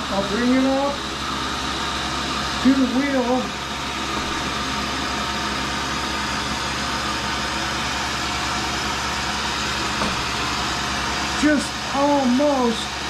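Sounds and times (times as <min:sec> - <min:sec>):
grinder motors humming: 0:00.0 - 0:13.0.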